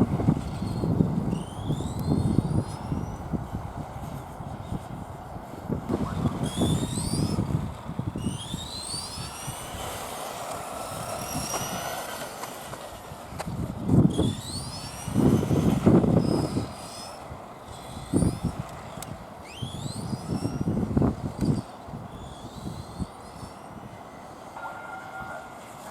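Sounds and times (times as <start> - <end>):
toy truck electric motor whining: 0.0 - 5.4, 6.2 - 24.6.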